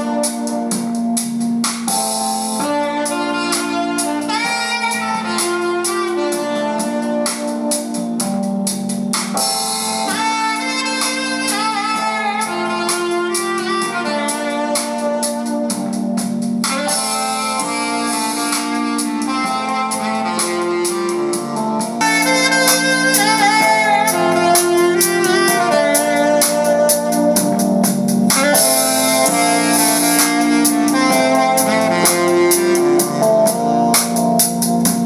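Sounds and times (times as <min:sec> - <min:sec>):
instrumental music: 0:00.0 - 0:35.0.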